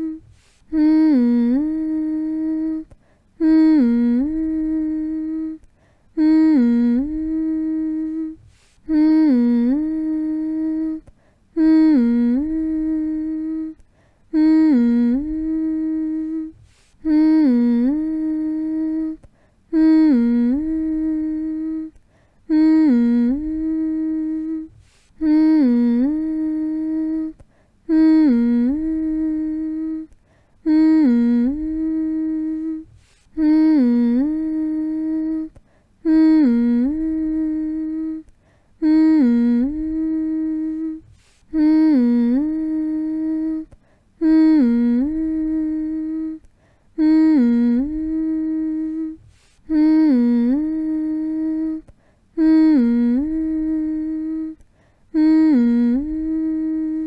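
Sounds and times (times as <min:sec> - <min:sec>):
person humming: 0:00.0 - 0:57.0.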